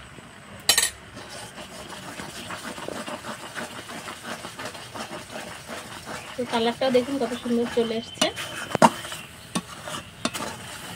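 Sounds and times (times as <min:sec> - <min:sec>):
spoon stirring and scraping pan: 0:00.7 - 0:10.9.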